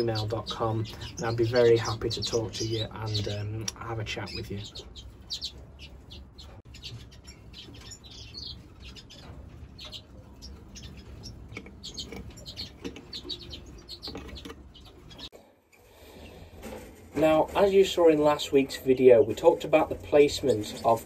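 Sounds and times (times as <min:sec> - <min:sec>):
cage birds chirping: 0:00.0 - 0:21.0.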